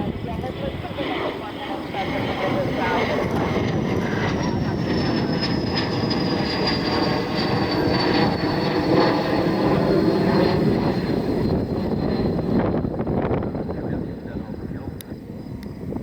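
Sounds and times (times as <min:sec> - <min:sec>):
high jet whine: 0:00.0 - 0:16.0
jet engines roaring: 0:00.0 - 0:16.0.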